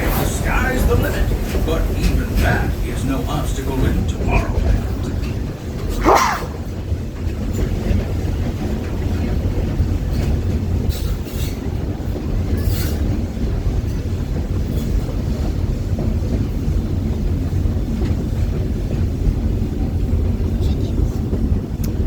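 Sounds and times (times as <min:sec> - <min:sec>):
steam train rumbling on track: 0:00.0 - 0:22.0.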